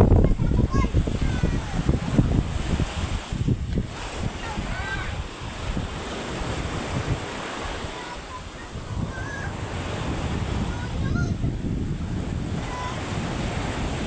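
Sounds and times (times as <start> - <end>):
surf breaking on shore: 0.0 - 14.0
wind buffeting microphone: 0.0 - 14.0.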